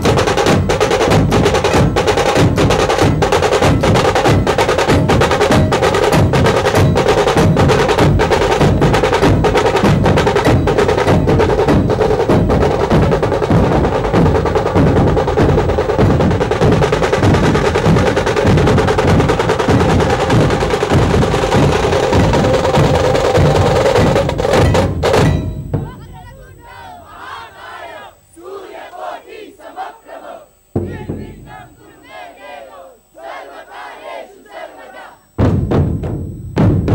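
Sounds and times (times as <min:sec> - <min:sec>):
fast ensemble drumming: 0:00.0 - 0:28.0, 0:30.8 - 0:32.0, 0:35.3 - 0:36.9.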